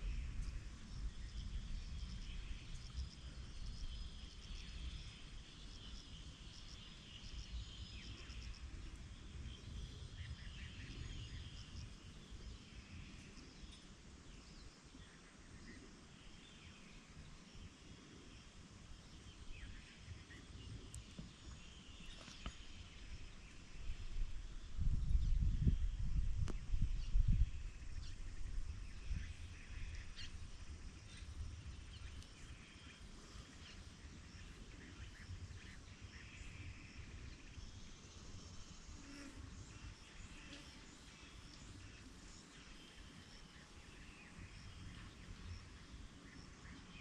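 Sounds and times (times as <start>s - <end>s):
insect calls: 0.0s - 24.8s, 25.5s - 47.0s.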